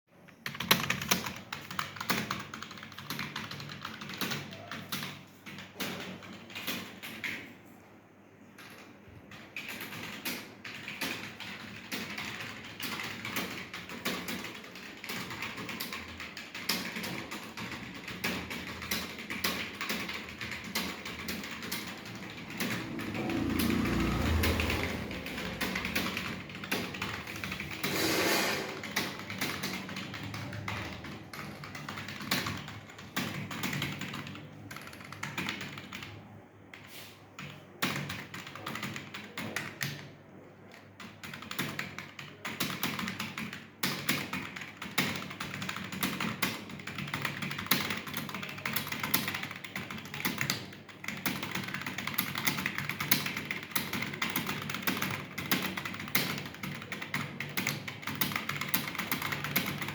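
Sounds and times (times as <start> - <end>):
fast typing on keyboard: 0.2 - 7.6, 8.4 - 59.9.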